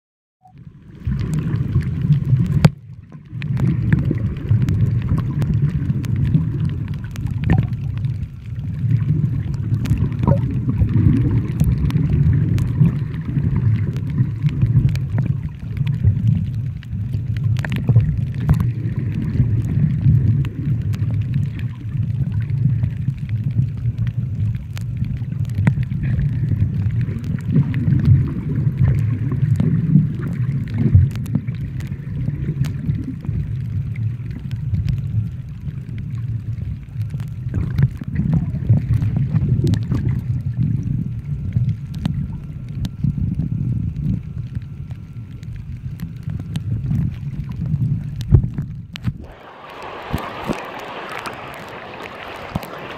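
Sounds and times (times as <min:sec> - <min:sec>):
muffled rumble of moving water: 0:00.4 - 0:52.9
sharp underwater clicks: 0:00.4 - 0:52.9.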